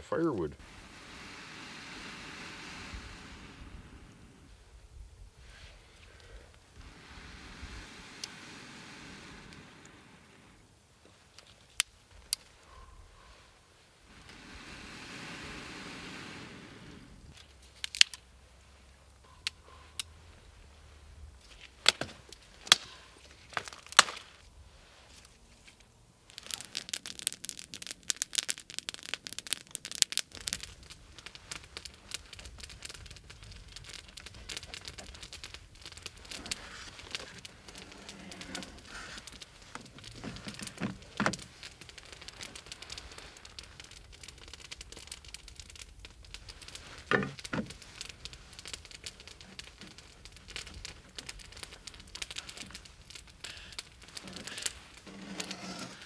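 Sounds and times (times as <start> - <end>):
campfire crackling: 0.0 - 56.0
rustling: 0.6 - 56.0.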